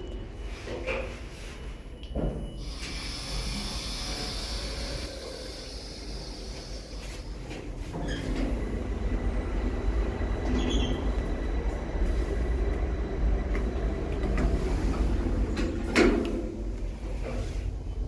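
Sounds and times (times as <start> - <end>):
elevator car rumble and hiss: 2.6 - 18.0.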